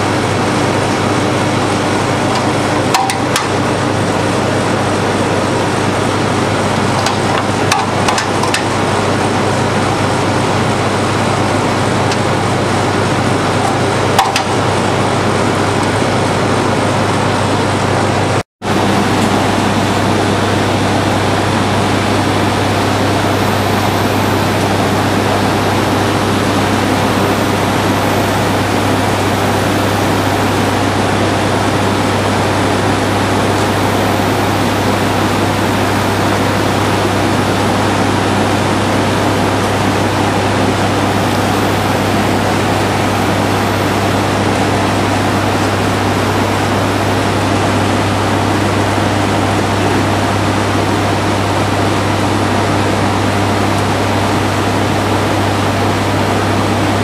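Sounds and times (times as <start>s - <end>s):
machinery running: 0.0s - 57.0s.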